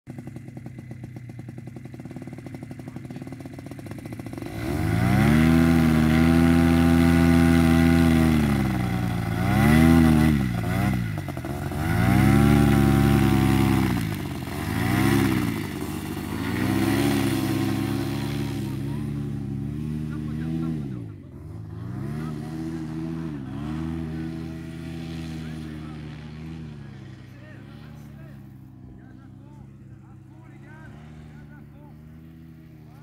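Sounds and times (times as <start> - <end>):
paramotor engine running: 0.1 - 33.0.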